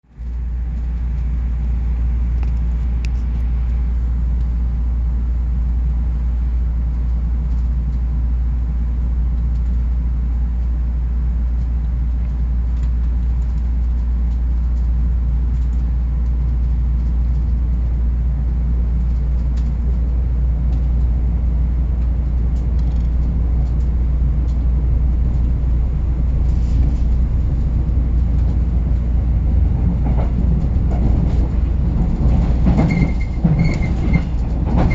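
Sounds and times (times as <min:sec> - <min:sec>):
passenger train rumbling: 0:00.0 - 0:34.9.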